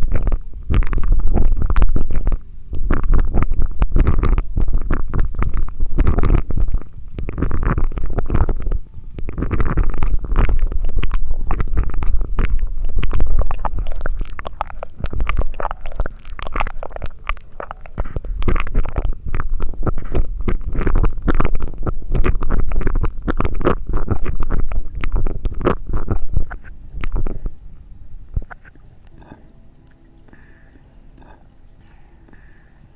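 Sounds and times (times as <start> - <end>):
mouth crackling and popping: 0.0 - 32.7.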